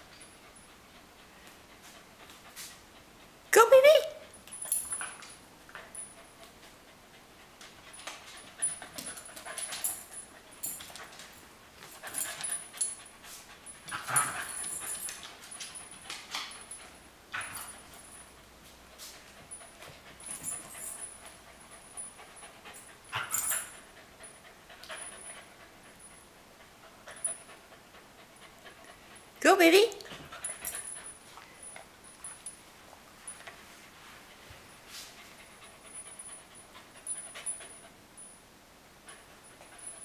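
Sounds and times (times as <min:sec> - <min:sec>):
dogs panting: 0:00.0 - 0:03.5, 0:04.3 - 0:29.4, 0:30.0 - 0:32.5, 0:33.3 - 0:38.3.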